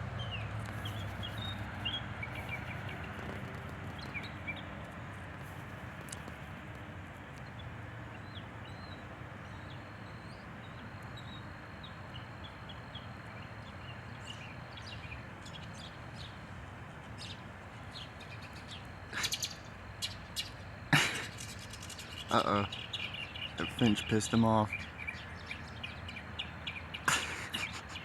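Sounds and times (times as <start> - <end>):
songbirds chirping and twittering: 0.0 - 28.0.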